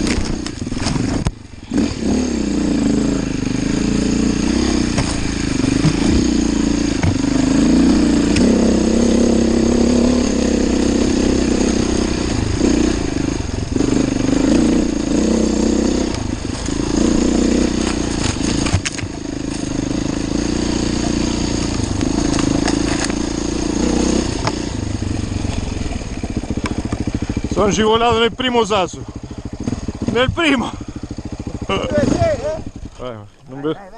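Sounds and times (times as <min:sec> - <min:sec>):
dirt bike engine revving: 0:00.0 - 0:33.8.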